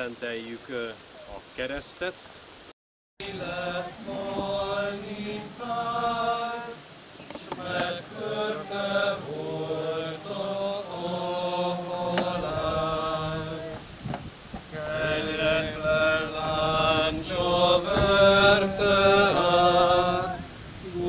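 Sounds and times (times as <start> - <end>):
congregation singing a hymn: 3.2 - 21.0.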